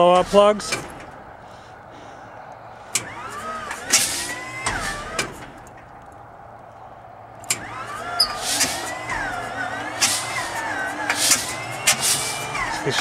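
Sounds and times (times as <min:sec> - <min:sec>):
starter whine cranking engine: 0:00.0 - 0:13.0.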